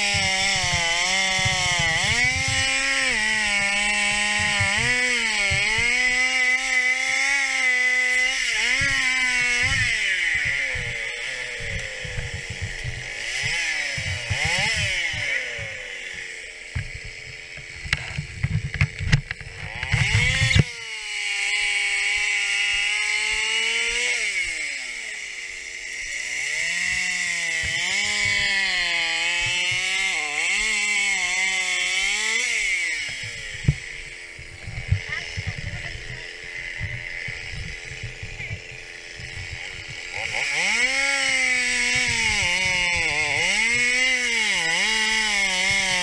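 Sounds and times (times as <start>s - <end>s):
chainsaw revving: 0.0s - 46.0s.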